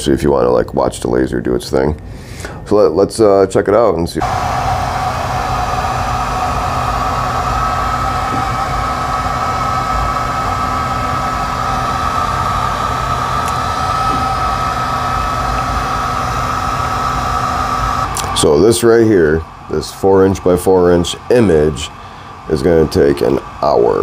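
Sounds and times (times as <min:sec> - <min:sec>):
laser engraver motor whine: 0:04.2 - 0:24.0.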